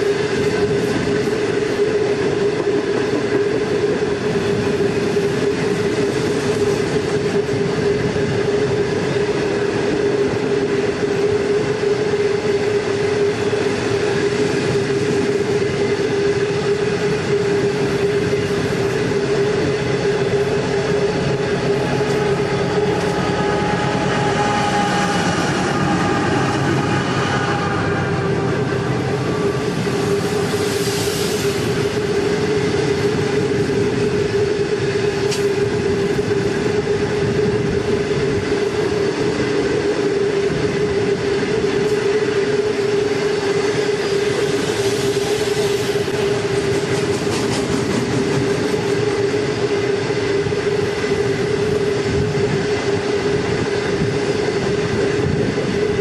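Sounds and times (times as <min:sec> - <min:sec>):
train wagons rumbling past: 0:00.0 - 0:56.0.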